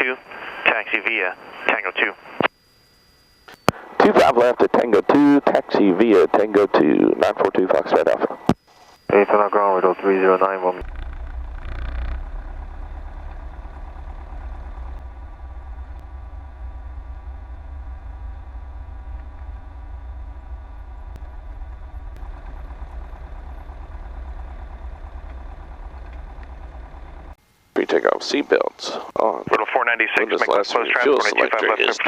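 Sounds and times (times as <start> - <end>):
airplane engine and propeller droning: 3.5 - 32.0.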